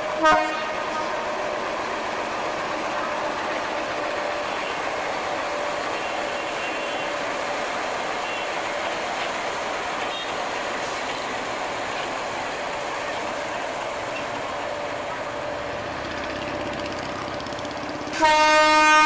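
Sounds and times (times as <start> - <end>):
diesel locomotive rolling past: 0.0 - 19.0.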